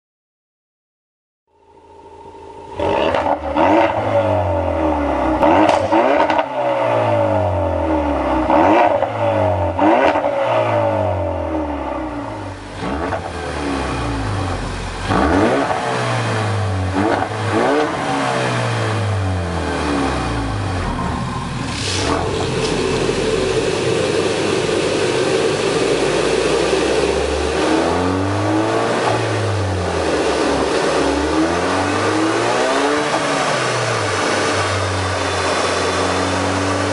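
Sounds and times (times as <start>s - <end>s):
car engine revving: 1.7s - 36.9s.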